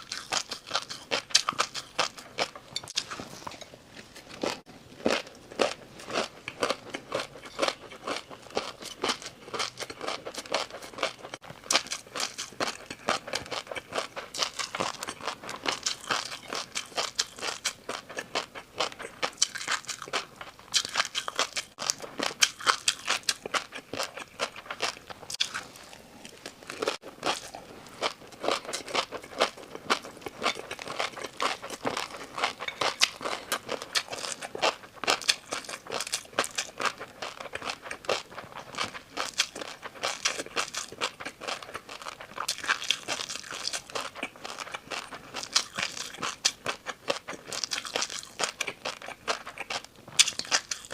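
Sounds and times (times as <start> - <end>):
crunching and chewing crisp food: 0.0 - 50.9.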